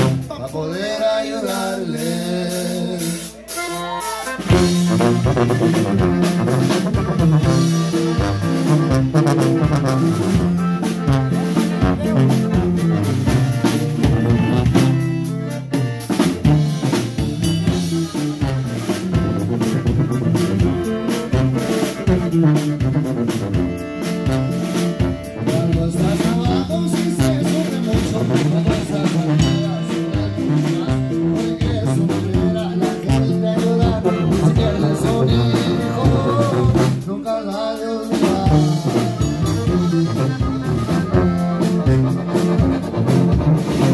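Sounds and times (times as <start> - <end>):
button accordion: 0.0 - 0.5, 1.6 - 43.9
bajo sexto guitar: 0.0 - 43.9
drum kit steady beat: 0.0 - 43.9
tuba bass line: 0.0 - 43.9.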